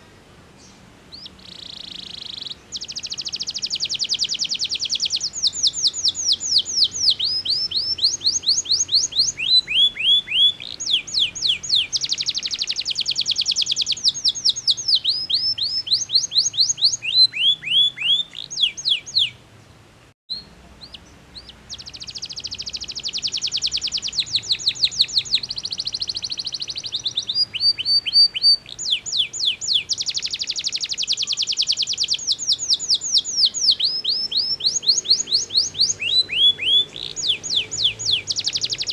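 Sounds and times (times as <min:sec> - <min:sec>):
canary singing trills: 0:00.6 - 0:38.9.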